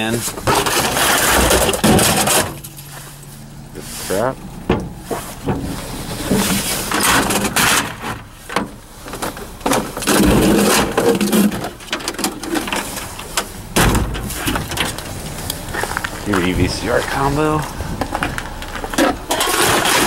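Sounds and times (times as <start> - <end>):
electronics clattering in metal dumpster: 0.0 - 3.0, 4.5 - 15.5, 17.9 - 20.0.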